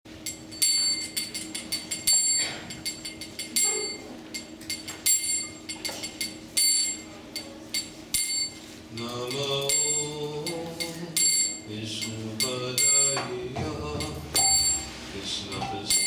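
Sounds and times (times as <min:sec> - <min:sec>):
faint steady hum: 0:00.1 - 0:16.0
small hand cymbals struck: 0:00.2 - 0:16.0.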